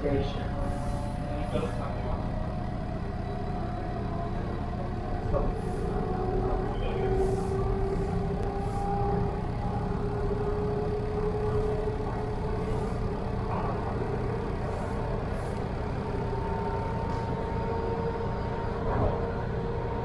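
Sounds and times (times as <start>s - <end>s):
train motor hum: 0.0s - 20.0s
wheels rumbling on rail: 0.0s - 20.0s.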